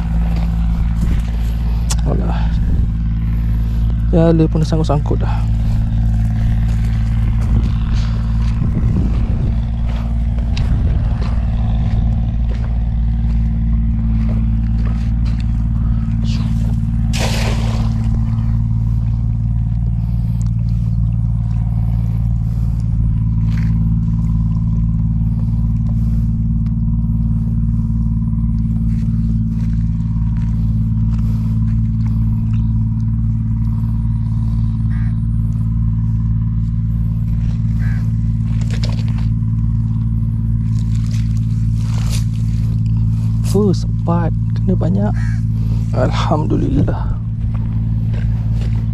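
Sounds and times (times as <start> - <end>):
low engine drone: 0.0 - 48.9.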